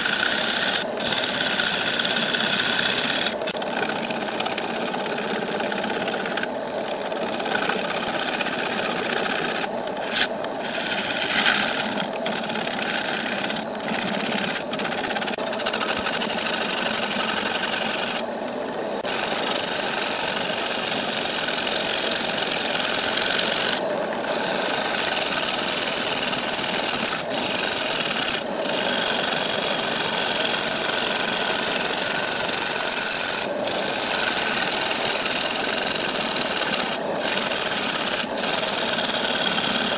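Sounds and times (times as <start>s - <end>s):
lathe tool shaving wood: 0.0s - 18.3s, 19.0s - 39.9s.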